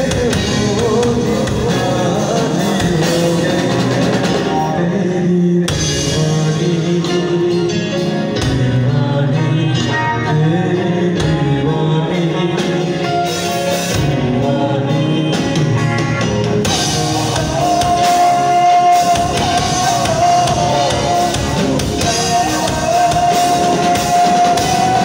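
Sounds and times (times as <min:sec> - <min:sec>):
live band playing: 0:00.0 - 0:25.0
man singing: 0:00.0 - 0:25.0.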